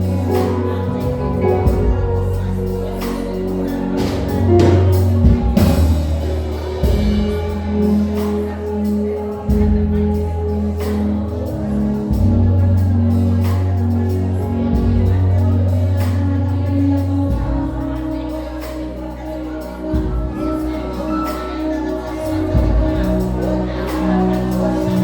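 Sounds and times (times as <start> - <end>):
live gospel band music: 0.0 - 25.0.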